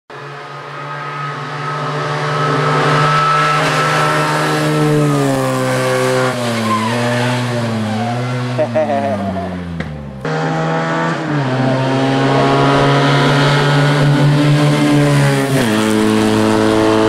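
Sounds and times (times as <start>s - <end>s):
race car engine high revs: 0.5s - 17.0s.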